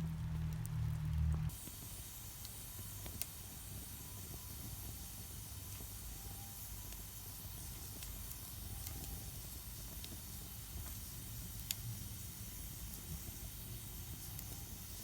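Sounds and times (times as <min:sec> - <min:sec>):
fire crackles: 0:00.0 - 0:15.0
wood fire hissing: 0:00.0 - 0:15.0.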